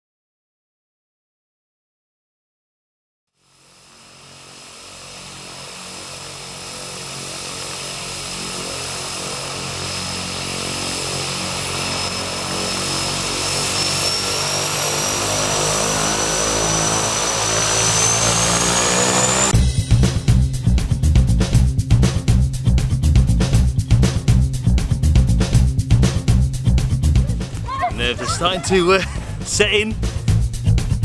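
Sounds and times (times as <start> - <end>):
propeller aircraft engine whine: 3.3 - 31.0.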